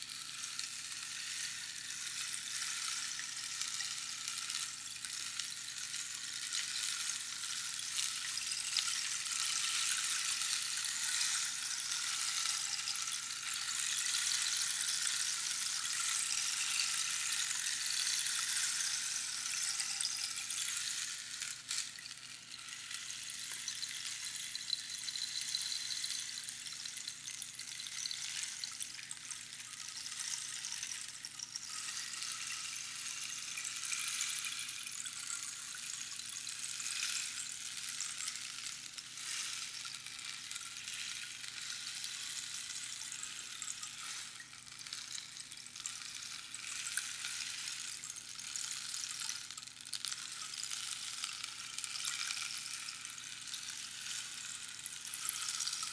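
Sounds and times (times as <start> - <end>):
rainstick pebbles trickling: 0.0 - 55.9.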